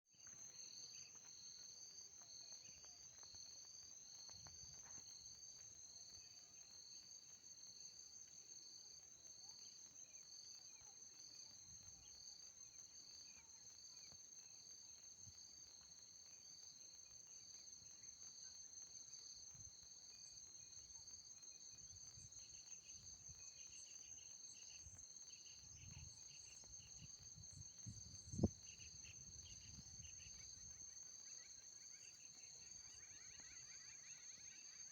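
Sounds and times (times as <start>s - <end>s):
crickets trilling and chirping: 0.2s - 34.9s.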